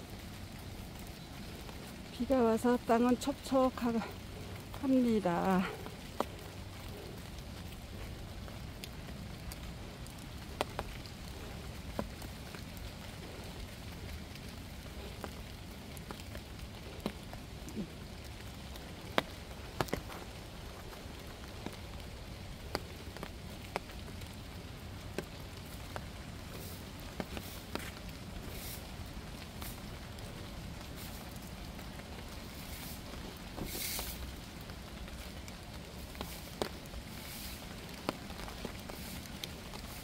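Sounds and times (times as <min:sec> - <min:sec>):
low outdoor hiss: 0:00.0 - 0:40.0
raindrops ticking: 0:00.0 - 0:40.0.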